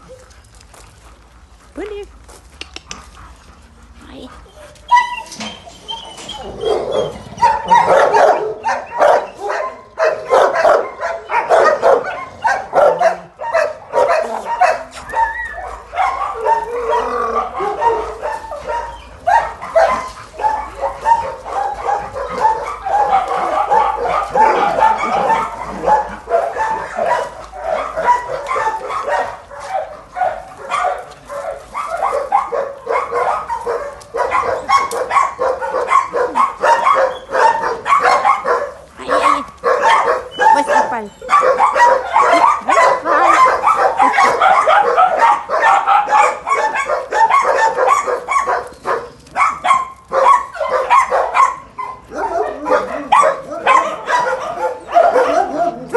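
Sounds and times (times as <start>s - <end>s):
dogs barking: 3.1s - 55.9s.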